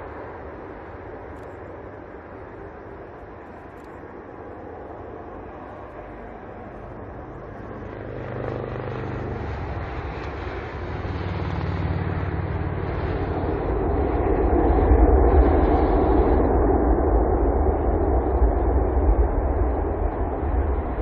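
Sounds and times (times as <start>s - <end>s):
jet engine rushing and rumbling: 0.0s - 21.0s.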